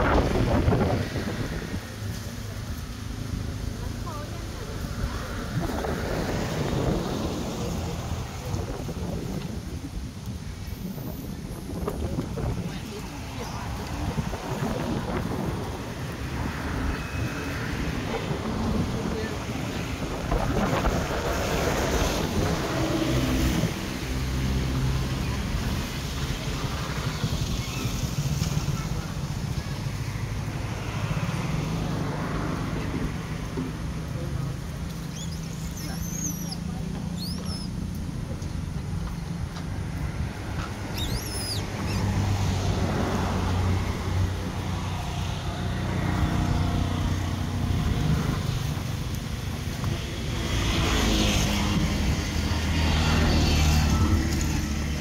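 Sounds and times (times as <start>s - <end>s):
traffic hum: 0.0s - 55.0s
wind rumbling on microphone: 0.0s - 55.0s.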